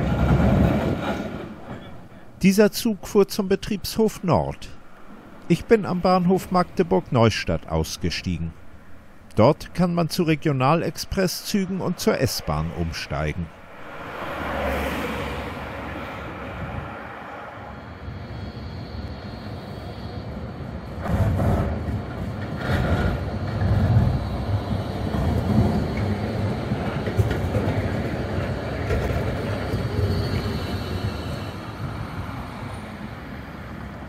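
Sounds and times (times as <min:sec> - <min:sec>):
tram passing on rails: 0:00.0 - 0:34.0.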